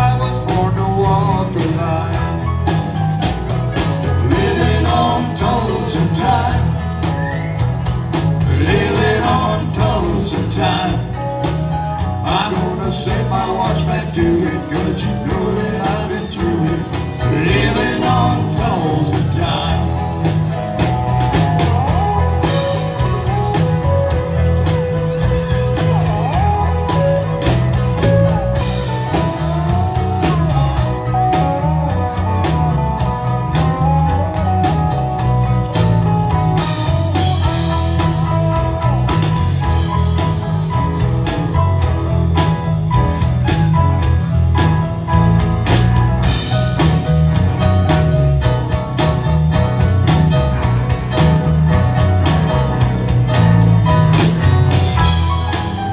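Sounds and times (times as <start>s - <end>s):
country-rock band playing: 0.0s - 55.9s
electric guitar lead: 0.0s - 55.9s.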